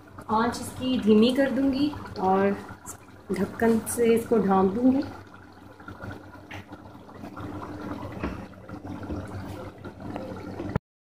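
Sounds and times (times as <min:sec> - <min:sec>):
curry simmering and bubbling: 0:00.0 - 0:10.8.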